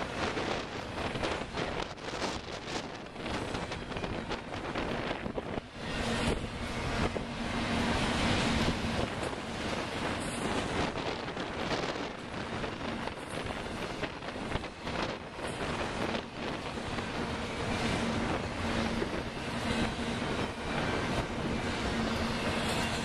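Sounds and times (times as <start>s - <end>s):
freight cars rolling on rails: 0.0s - 23.0s
wind buffeting microphone: 0.0s - 23.0s.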